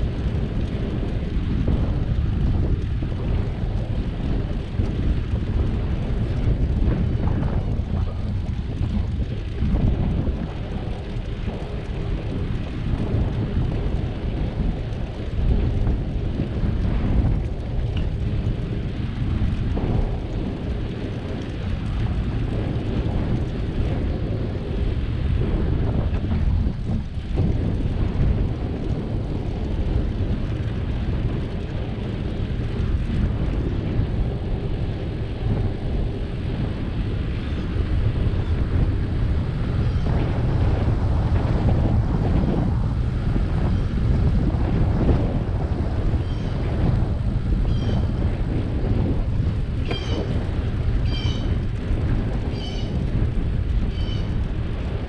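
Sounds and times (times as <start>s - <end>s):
bicycle road noise: 0.0s - 55.0s
wind buffeting microphone: 0.0s - 55.0s.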